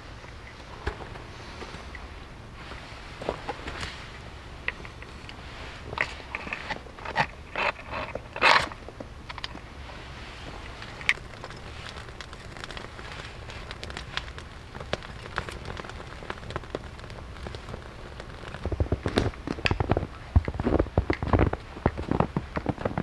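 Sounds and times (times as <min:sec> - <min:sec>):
kindling crackling and popping: 0:00.0 - 0:23.0.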